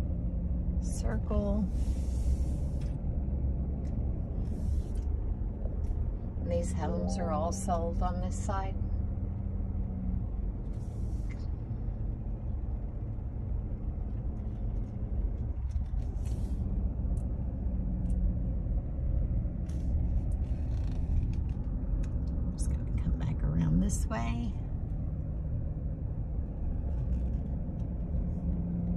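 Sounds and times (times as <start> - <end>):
car road and engine rumble: 0.0 - 28.9.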